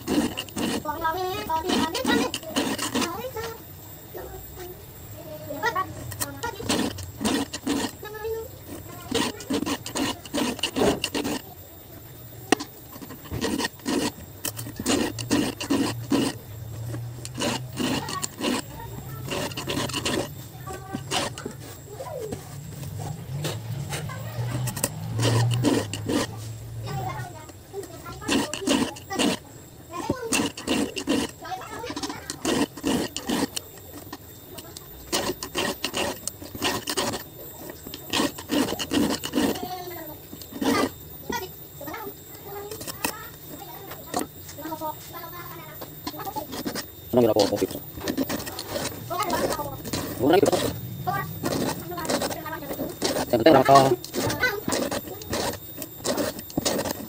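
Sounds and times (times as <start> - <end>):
file rasping on chainsaw chain: 0.0 - 57.0.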